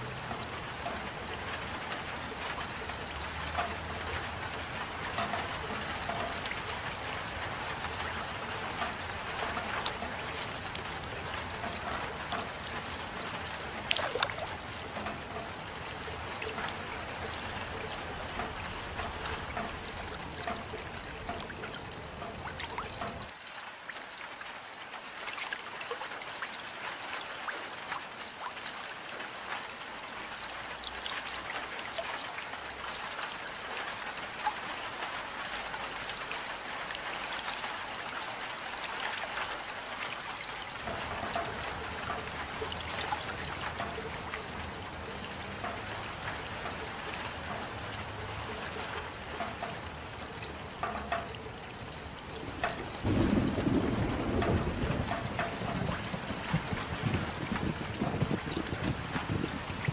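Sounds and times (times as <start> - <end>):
steady rain: 0.0 - 59.9
trickling water: 0.0 - 59.9.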